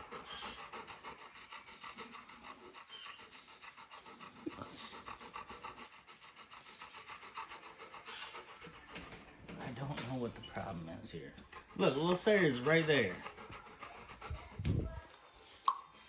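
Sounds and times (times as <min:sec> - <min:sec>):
dog panting rapidly: 0:00.0 - 0:15.6.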